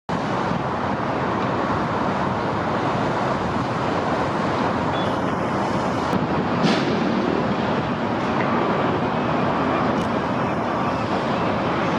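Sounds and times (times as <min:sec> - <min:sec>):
city traffic noise: 0:00.1 - 0:11.9.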